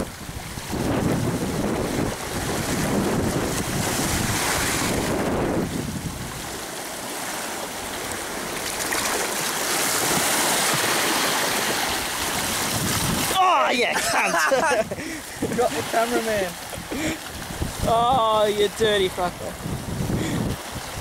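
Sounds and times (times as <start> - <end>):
small waves washing over rocks: 0.0 - 21.0
wind buffeting microphone: 0.0 - 21.0.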